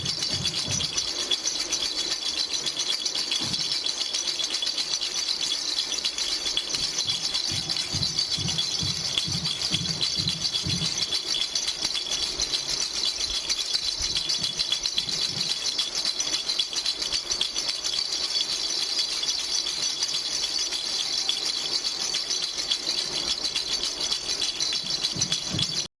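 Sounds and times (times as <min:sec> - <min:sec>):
baby rattle shaking: 0:00.0 - 0:25.9.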